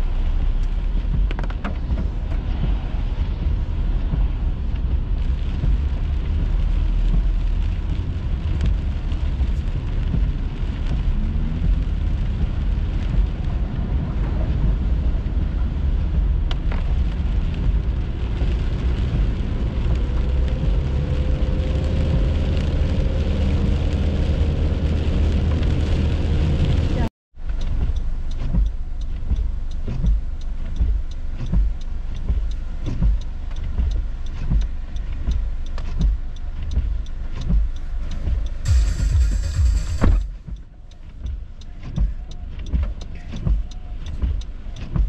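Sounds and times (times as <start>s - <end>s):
road and rain noise in car: 0.0s - 45.0s.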